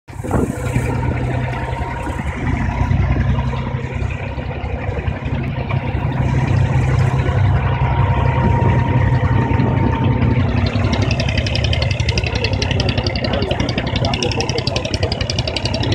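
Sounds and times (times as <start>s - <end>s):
boat engine running: 0.1s - 15.9s.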